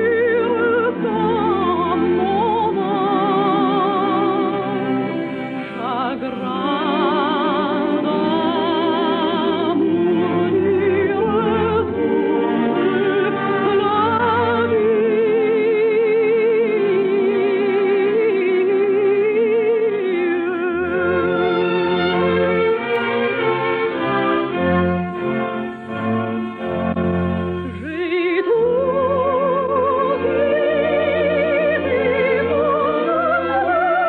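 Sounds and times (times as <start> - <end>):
orchestral accompaniment: 0.0 - 34.0.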